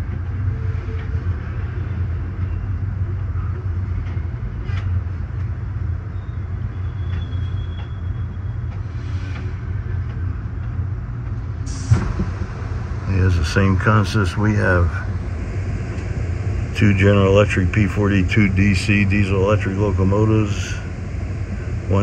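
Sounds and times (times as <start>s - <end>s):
train cars rumbling on rails: 0.0s - 22.0s.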